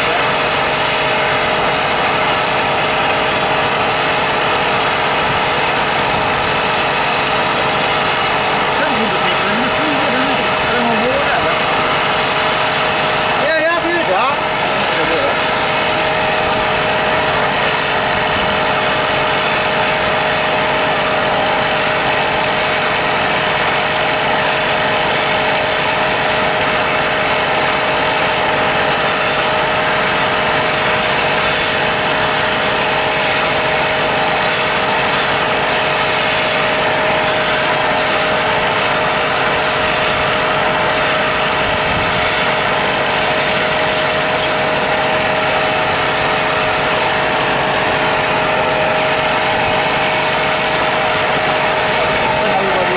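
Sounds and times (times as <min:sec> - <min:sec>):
machine hissing with constant tone: 0:00.0 - 0:52.9.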